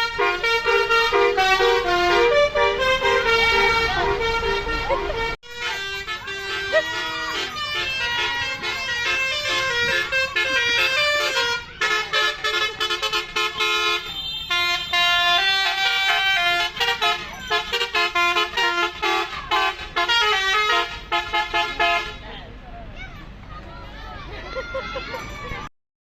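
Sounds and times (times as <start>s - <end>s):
musical multi-tone bus horn: 0.0s - 22.5s.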